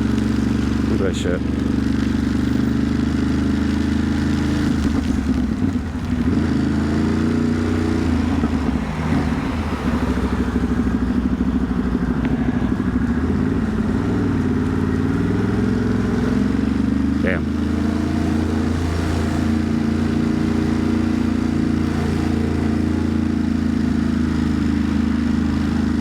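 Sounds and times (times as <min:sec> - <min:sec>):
motorcycle engine running: 0:00.0 - 0:26.0
road and wind noise: 0:00.0 - 0:26.0.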